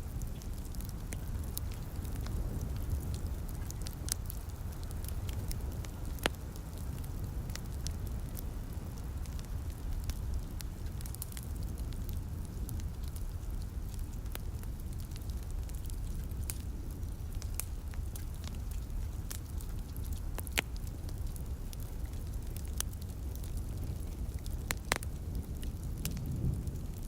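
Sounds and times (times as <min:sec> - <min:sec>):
fire crackling: 0:00.0 - 0:27.0
low rumble of fire: 0:00.0 - 0:27.0.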